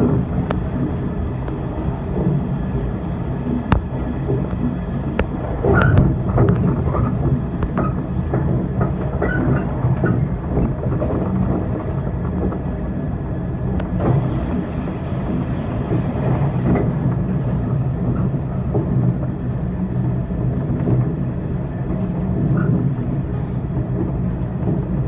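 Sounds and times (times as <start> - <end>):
train wheels and motors rumbling: 0.0 - 25.0.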